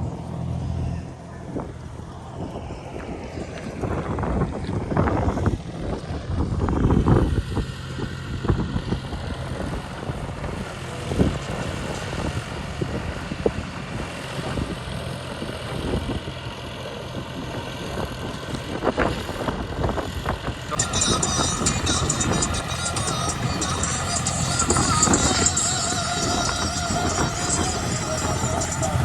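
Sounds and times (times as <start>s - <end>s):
tractor engine running: 0.0s - 29.0s
wind buffeting microphone: 1.4s - 29.0s.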